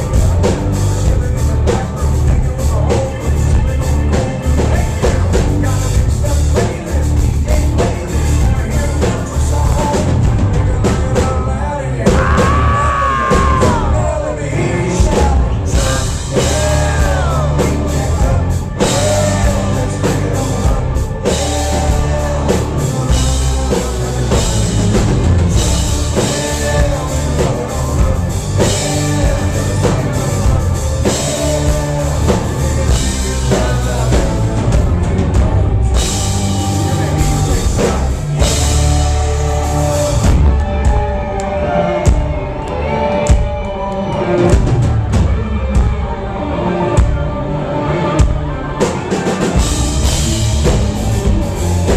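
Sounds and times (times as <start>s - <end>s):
country-rock band playing: 0.0s - 51.9s
drum kit: 0.0s - 51.9s
man singing: 0.0s - 51.9s.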